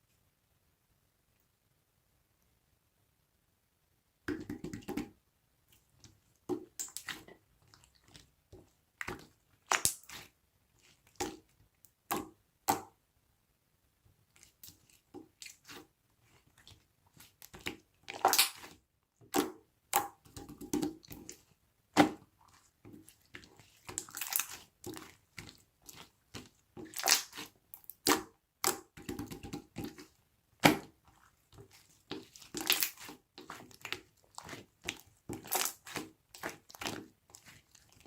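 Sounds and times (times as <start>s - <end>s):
slime squelching and popping: 5.8s - 13.0s, 14.3s - 38.0s.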